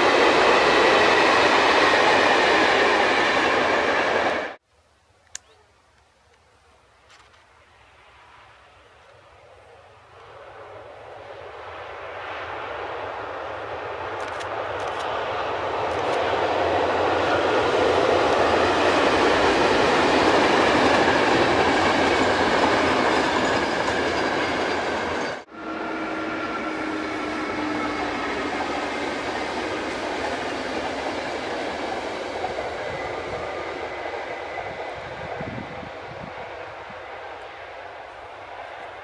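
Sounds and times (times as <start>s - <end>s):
approaching train rumble: 0.0s - 4.6s, 7.6s - 39.0s
train rumbling over viaduct: 0.0s - 4.6s, 10.0s - 39.0s.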